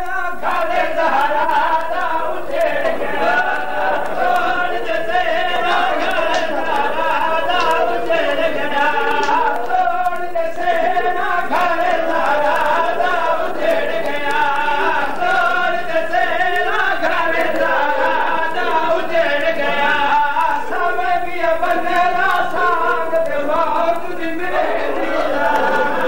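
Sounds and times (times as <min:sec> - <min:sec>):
men chanting a mournful lament: 0:00.0 - 0:26.0.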